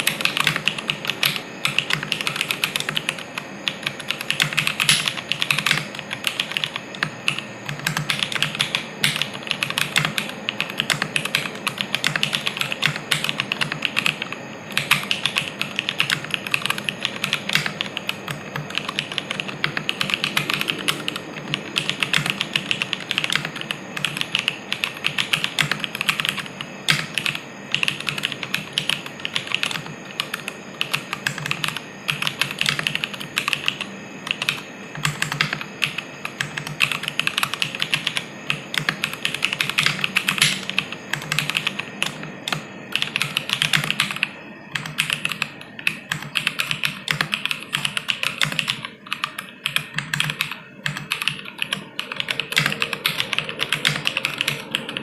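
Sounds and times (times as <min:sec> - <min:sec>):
fast typing on mechanical keyboard: 0:00.0 - 0:55.0.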